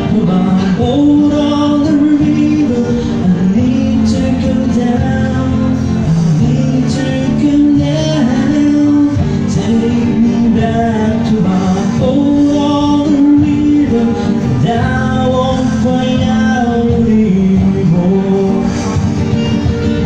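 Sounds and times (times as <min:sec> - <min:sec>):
acoustic guitar: 0:00.0 - 0:20.0
man singing slow melody: 0:00.0 - 0:20.0.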